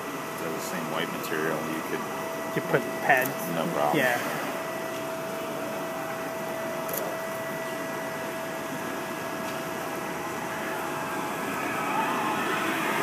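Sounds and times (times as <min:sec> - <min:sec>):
mechanical hum and hiss: 0:00.0 - 0:13.0
mid-pitched whine: 0:00.0 - 0:13.0.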